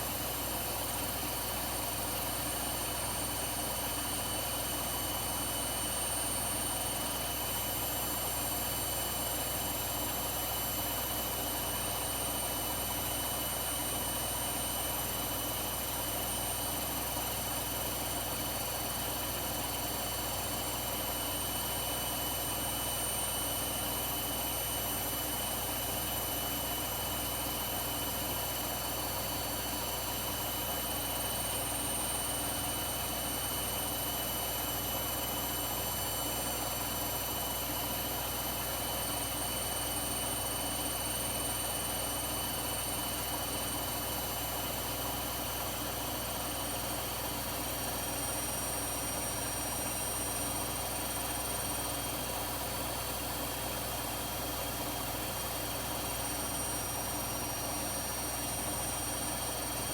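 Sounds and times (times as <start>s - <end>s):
washing machine spinning: 3.3s - 59.9s.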